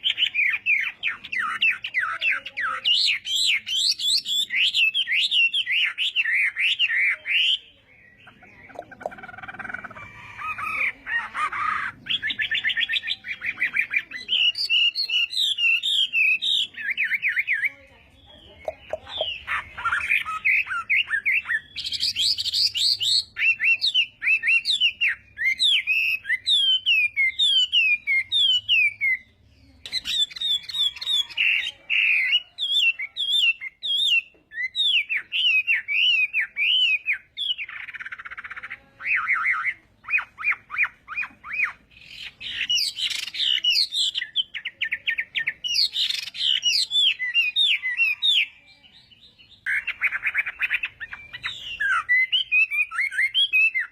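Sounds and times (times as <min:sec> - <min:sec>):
songbird singing varied song: 0:00.0 - 0:53.9.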